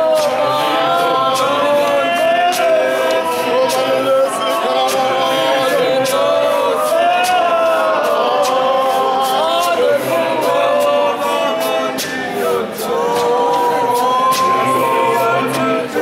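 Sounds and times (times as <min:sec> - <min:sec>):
group singing a hymn: 0:00.0 - 0:16.0
regular sharp beat: 0:00.0 - 0:16.0.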